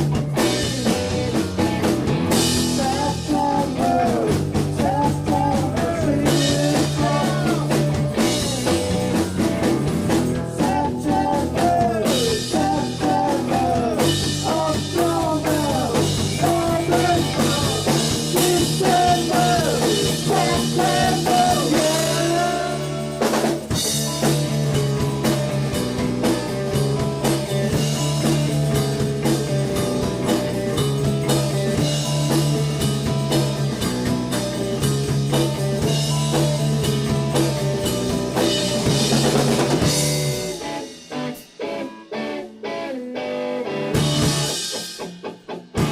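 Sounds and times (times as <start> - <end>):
live rock band playing: 0.0 - 45.9
singing or lead guitar line: 0.0 - 45.9.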